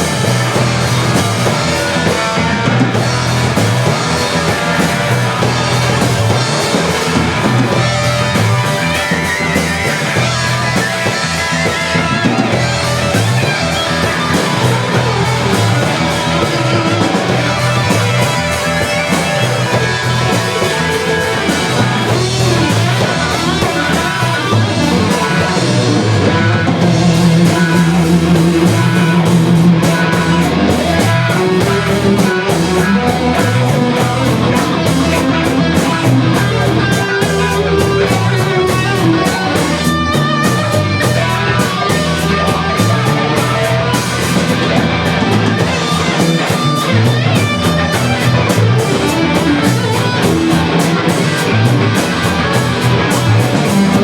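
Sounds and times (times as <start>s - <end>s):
bass: 0.0s - 54.0s
drum kit beat: 0.0s - 54.0s
electric guitar: 0.0s - 54.0s.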